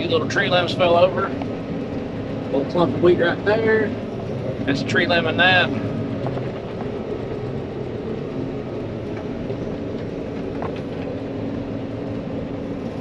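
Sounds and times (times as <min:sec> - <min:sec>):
combine harvester mechanical drone: 0:00.0 - 0:13.0.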